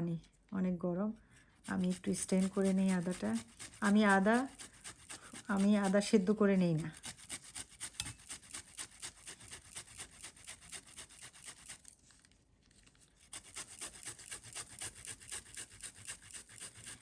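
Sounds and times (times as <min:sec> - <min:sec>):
ginger being grated: 0:01.6 - 0:12.1, 0:13.2 - 0:17.0.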